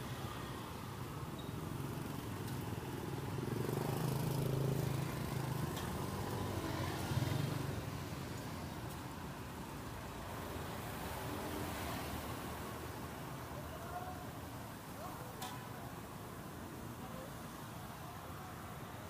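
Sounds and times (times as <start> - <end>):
street background noise: 0.0 - 19.0.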